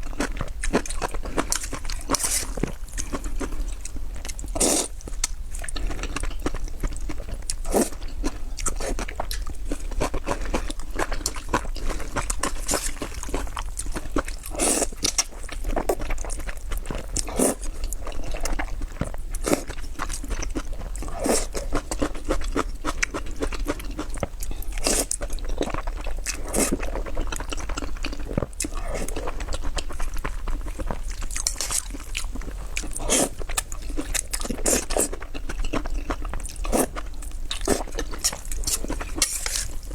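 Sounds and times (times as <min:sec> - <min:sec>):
chewing and crunching noodles: 0:00.0 - 0:39.9.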